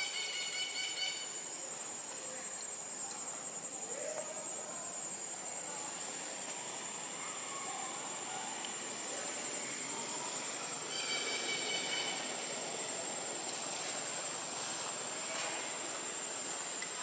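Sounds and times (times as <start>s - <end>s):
constant high-pitched whine: 0.0s - 17.0s
outdoor background noise: 0.0s - 17.0s.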